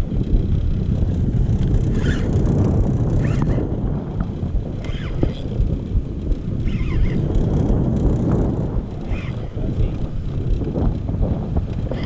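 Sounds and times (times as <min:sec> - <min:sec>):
fishing boat engine rumble: 0:00.0 - 0:12.0
wind buffeting microphone: 0:00.0 - 0:12.0.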